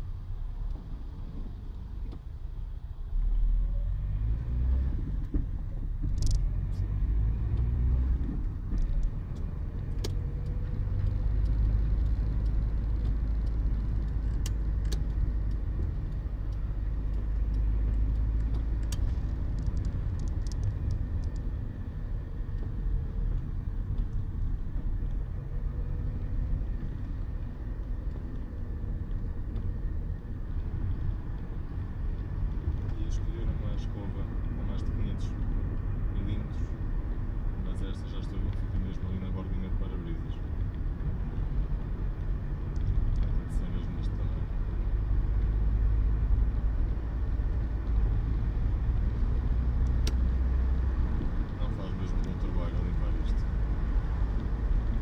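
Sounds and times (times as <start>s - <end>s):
road rumble: 0.0s - 55.0s
car engine running: 4.9s - 55.0s.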